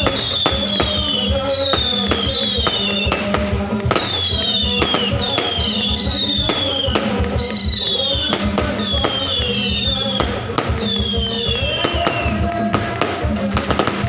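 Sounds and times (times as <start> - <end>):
falling fireworks whistles: 0.0 - 14.0
fireworks bangs: 0.0 - 14.0.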